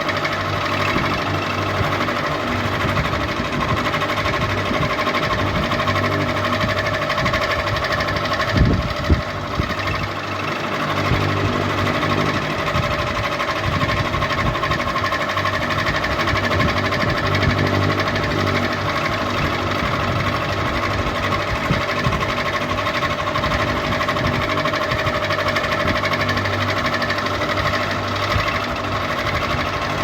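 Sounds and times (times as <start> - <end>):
ceiling fan whirring: 0.0 - 30.0.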